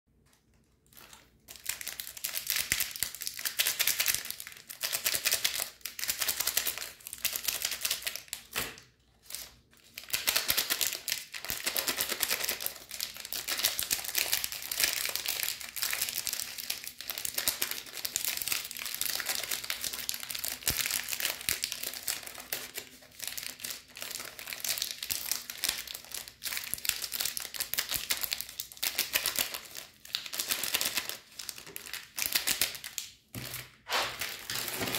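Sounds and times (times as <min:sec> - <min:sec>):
candy wrappers crinkling: 0:00.2 - 0:34.9.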